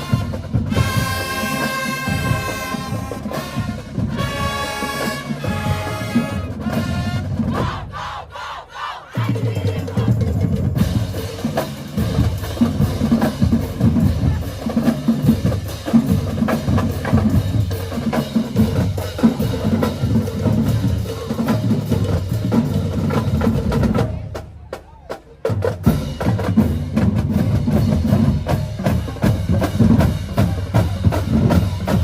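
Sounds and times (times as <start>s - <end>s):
bass drums: 0.0s - 8.0s, 9.2s - 32.0s
snare drums: 0.0s - 8.4s, 9.1s - 32.0s.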